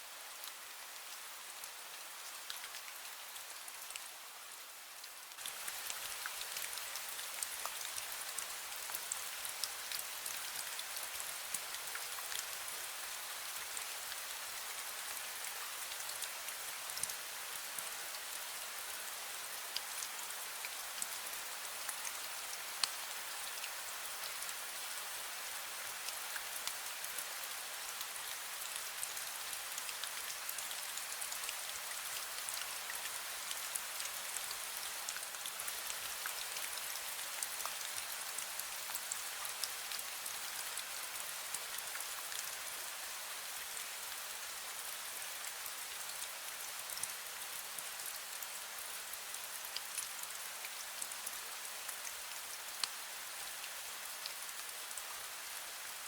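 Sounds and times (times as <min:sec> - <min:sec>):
light rain drizzle: 0:00.0 - 0:56.0.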